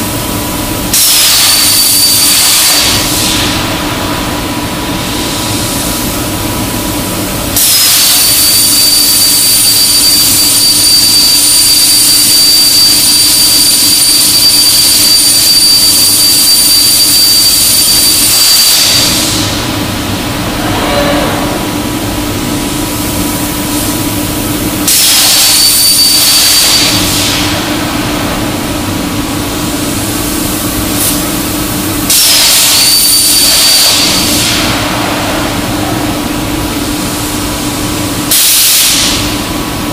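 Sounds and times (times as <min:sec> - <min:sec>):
steady machine hum: 0:00.0 - 0:39.9
plasma torch hissing and whining: 0:00.8 - 0:04.0, 0:07.5 - 0:34.9, 0:35.5 - 0:39.5.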